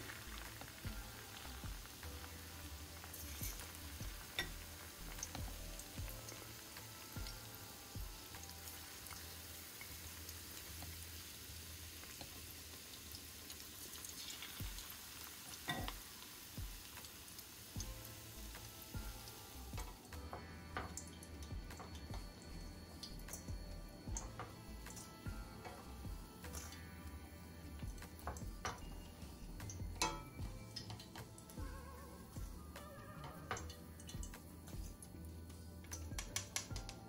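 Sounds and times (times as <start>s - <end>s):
food deep-frying in oil: 0.0s - 37.0s.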